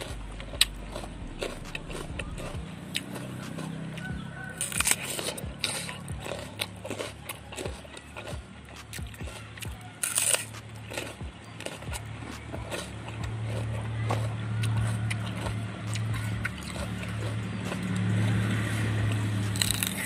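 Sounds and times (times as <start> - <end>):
chewing clicks: 0.0 - 20.0
crunching bite into vegetable: 0.0 - 20.0
low engine hum: 0.0 - 20.0.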